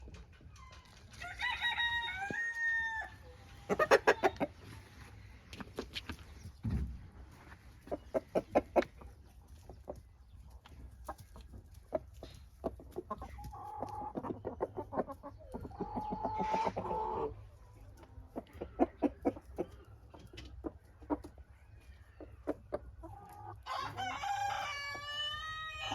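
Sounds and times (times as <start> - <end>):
chickens clucking: 0.0 - 25.9
drawn-out chicken calls: 0.0 - 25.9.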